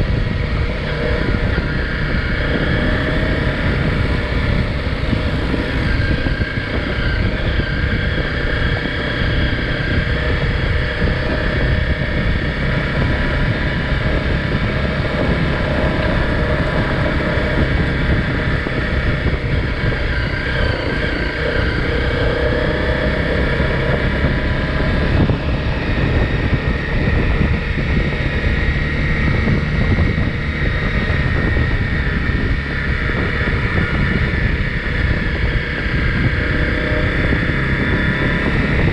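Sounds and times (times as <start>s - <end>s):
single-cylinder engine running: 0.0s - 38.9s.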